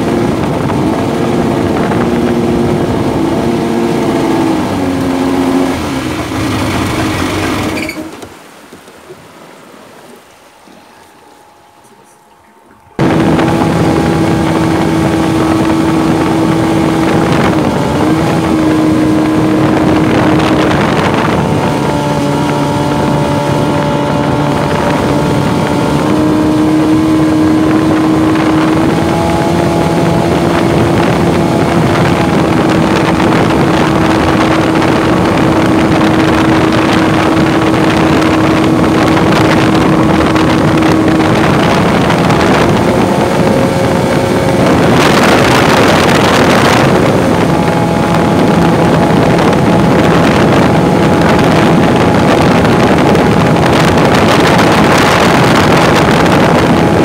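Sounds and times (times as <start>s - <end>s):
jet boat engine running: 0.0s - 57.0s
wind noise on microphone: 0.0s - 57.0s.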